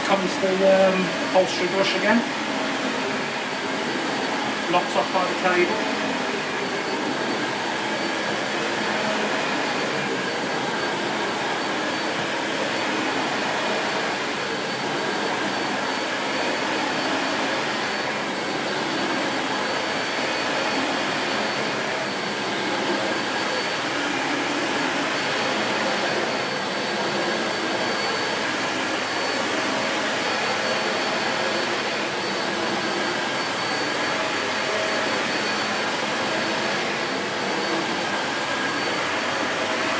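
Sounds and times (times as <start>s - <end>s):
vacuum cleaner running over carpet: 0.0s - 39.9s.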